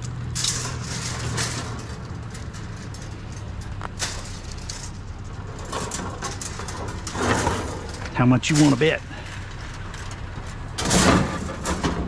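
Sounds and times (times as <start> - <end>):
truck engine idling: 0.0 - 12.0
wire fencing rattling: 0.0 - 12.0.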